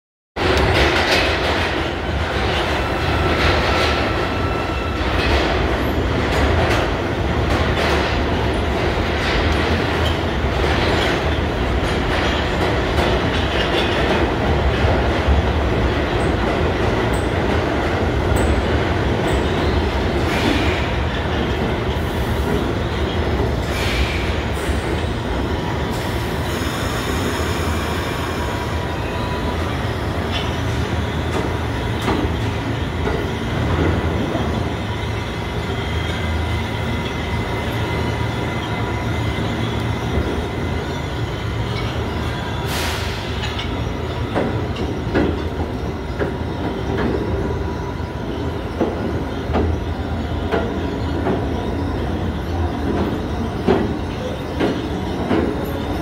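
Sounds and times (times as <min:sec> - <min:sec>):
subway train rumble: 0:00.4 - 0:56.0.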